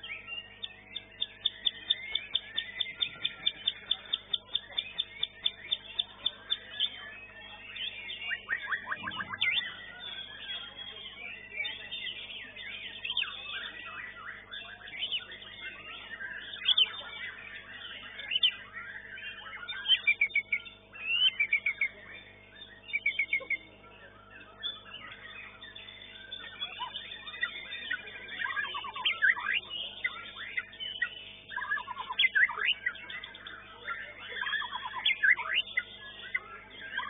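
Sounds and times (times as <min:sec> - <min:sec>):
bird singing whistles and trills: 0:00.0 - 0:37.0.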